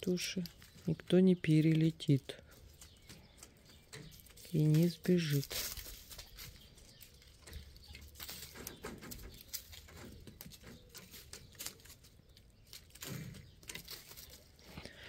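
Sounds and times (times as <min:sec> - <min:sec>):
chickens scratching on wood shavings: 0:00.0 - 0:15.0.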